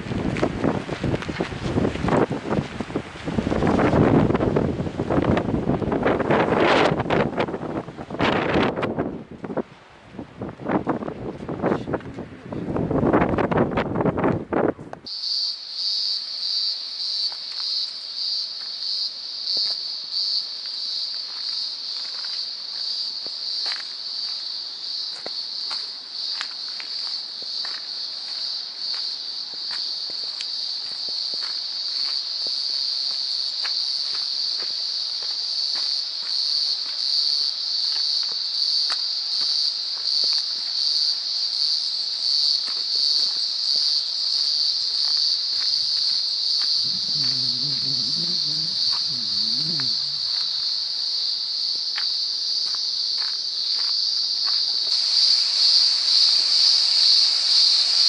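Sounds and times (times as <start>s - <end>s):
insect chorus buzzing: 0.0s - 9.6s, 12.7s - 58.0s.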